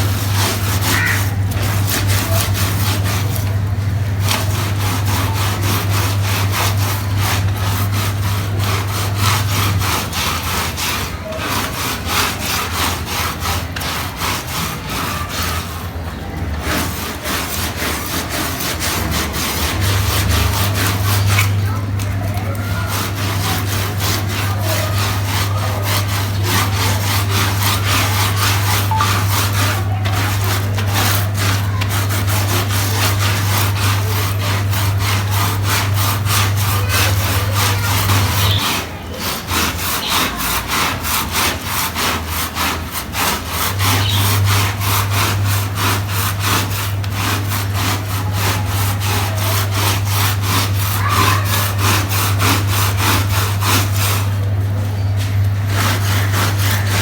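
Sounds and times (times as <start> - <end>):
brush scrubbing wet carpet: 0.0 - 57.0
low machine hum: 0.0 - 57.0.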